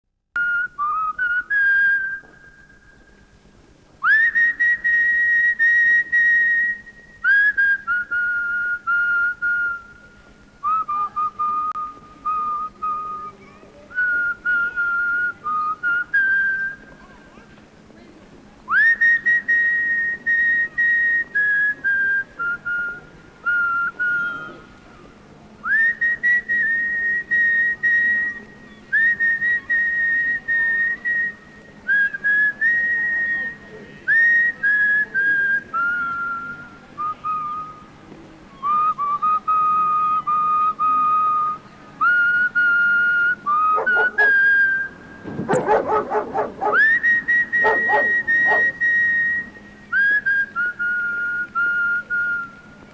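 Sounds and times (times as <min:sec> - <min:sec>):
person whistling a slow melody: 0:00.4 - 0:03.0, 0:04.0 - 0:17.0, 0:18.7 - 0:24.6, 0:25.6 - 0:37.9, 0:38.5 - 0:45.6, 0:46.7 - 0:52.9.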